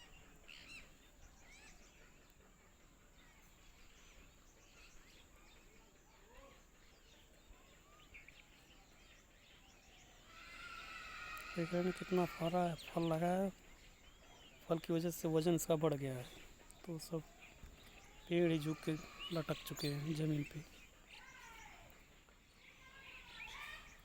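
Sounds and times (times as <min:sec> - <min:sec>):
faint small birds chirping: 0:00.0 - 0:24.0.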